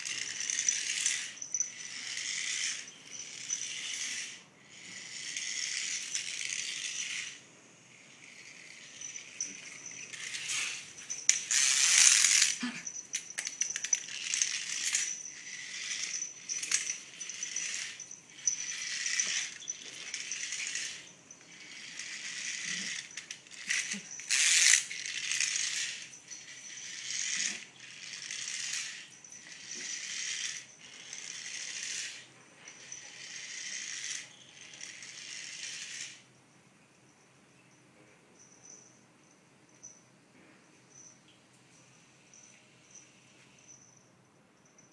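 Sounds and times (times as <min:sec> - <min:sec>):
toy rattling and buzzing: 0:00.0 - 0:37.8, 0:38.4 - 0:40.0, 0:40.9 - 0:44.9.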